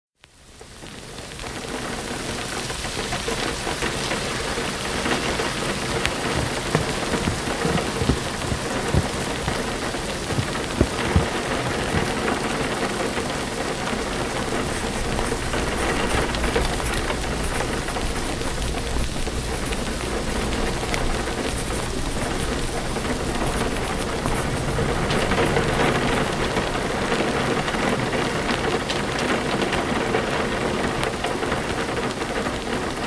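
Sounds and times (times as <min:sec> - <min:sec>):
steady rainfall: 0:00.3 - 0:33.0.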